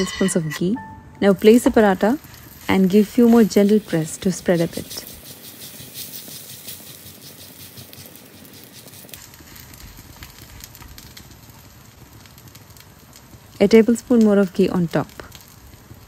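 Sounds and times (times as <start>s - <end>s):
flatbread sizzling on hot griddle: 1.4s - 16.0s.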